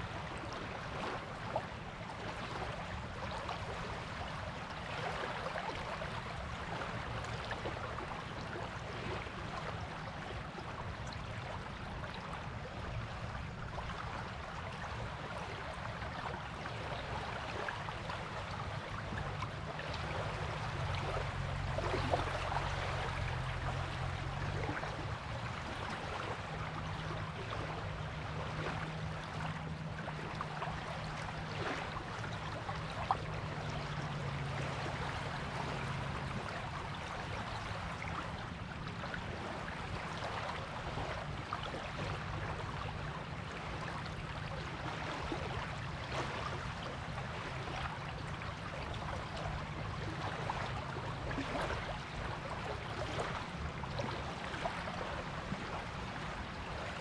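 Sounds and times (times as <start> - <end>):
low steady hum: 0.0 - 57.0
waves washing on beach: 0.0 - 57.0.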